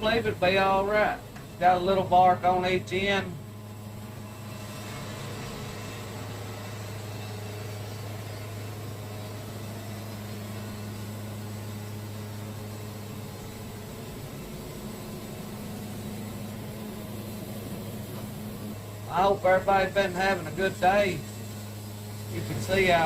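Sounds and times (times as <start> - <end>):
sawmill engine humming: 0.0 - 23.0.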